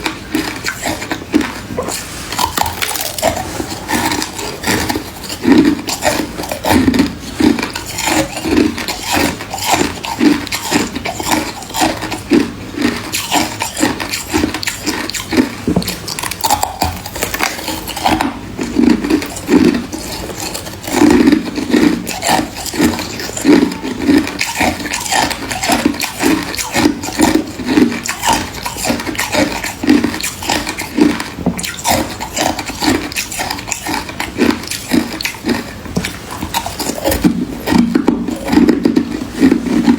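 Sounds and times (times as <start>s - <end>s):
chewing ice crunching: 0.0s - 39.9s.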